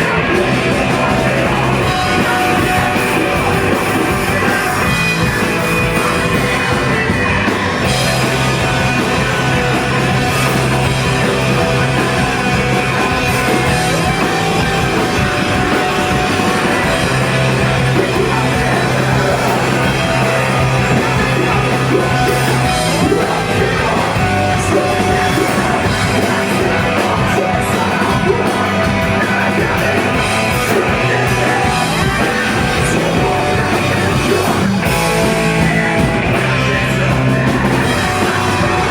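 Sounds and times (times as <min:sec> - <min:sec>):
bass: 0:00.0 - 0:38.9
distorted guitars: 0:00.0 - 0:38.9
drums: 0:00.0 - 0:38.9.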